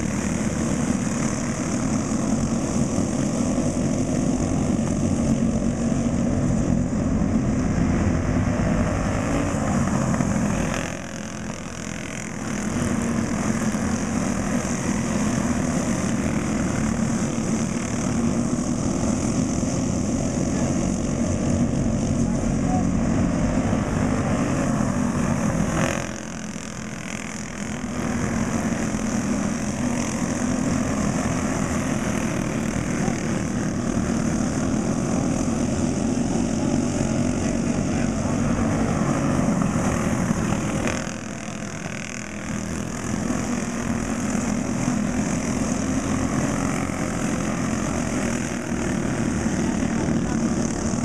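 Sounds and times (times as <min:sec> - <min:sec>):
go-kart engines racing: 0:00.0 - 0:51.0.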